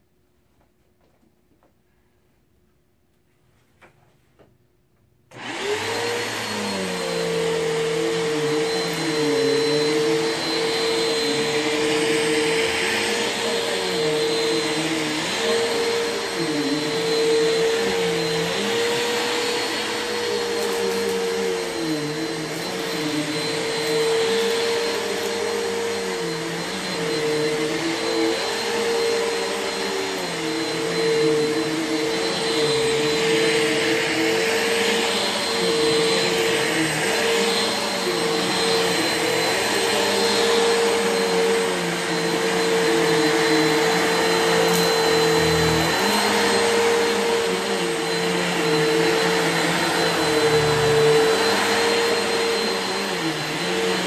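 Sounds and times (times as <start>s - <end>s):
vacuum cleaner motor whine: 5.3s - 54.0s.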